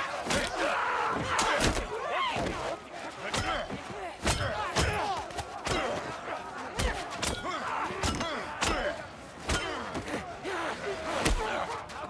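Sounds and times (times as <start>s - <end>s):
men shouting and yelling: 0.0s - 12.0s.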